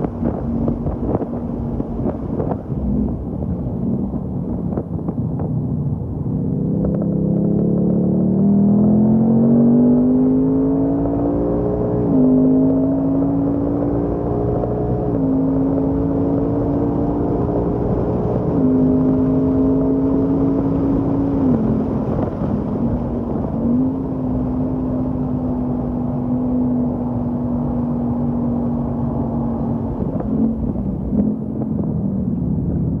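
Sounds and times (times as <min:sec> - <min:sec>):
car engine under load: 0:00.0 - 0:33.0.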